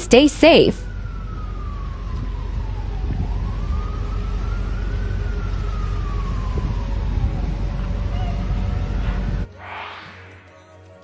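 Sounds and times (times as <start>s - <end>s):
emergency siren wailing: 0.0s - 10.8s.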